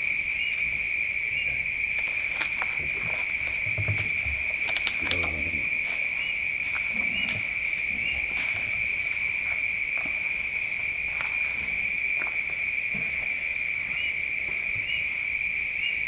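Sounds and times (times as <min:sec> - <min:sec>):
crickets trilling: 0:00.0 - 0:16.0
high-pitched insects: 0:00.0 - 0:16.0
short insect chirps: 0:00.0 - 0:16.0.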